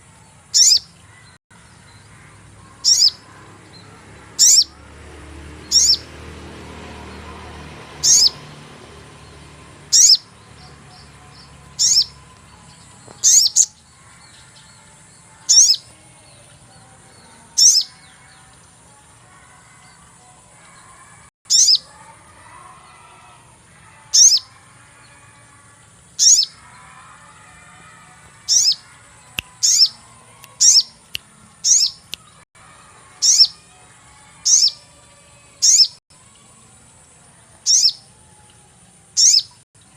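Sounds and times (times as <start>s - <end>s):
faint bird chatter: 0.0s - 4.7s, 9.9s - 18.6s, 19.4s - 32.4s, 33.1s - 36.8s, 37.5s - 39.9s.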